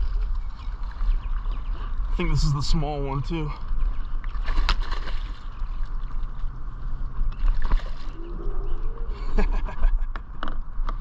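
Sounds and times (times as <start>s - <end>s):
wind buffeting microphone: 0.0s - 9.4s
faint hum: 0.0s - 11.0s.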